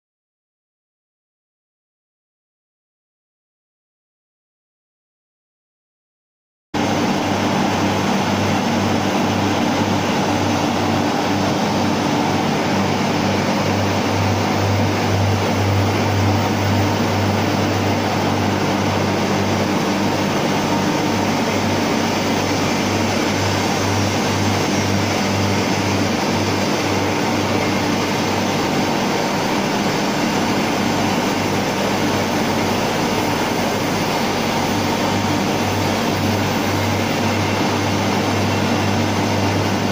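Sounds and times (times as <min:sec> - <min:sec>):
low machinery hum: 0:06.8 - 0:39.9
steam turbine rushing noise: 0:06.8 - 0:39.9.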